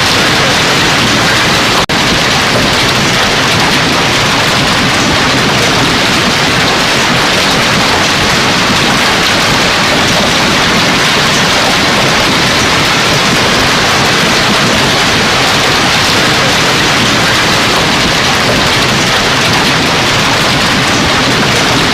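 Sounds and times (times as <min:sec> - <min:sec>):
hail and heavy rain: 0:00.0 - 0:21.9.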